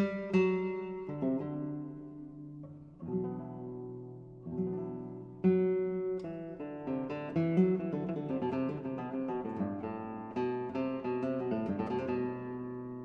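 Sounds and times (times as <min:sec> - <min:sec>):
acoustic guitar plucked notes: 0:00.0 - 0:13.0.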